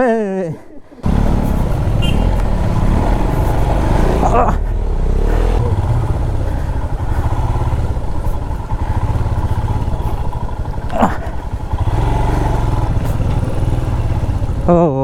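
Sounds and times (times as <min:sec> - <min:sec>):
motorcycle engine running unevenly: 0:00.9 - 0:15.0.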